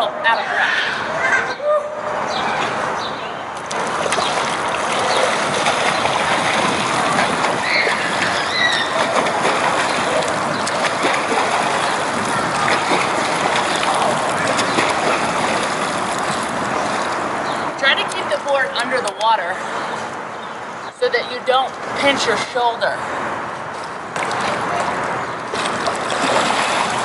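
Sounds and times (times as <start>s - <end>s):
pool water splashing: 0.0s - 27.0s.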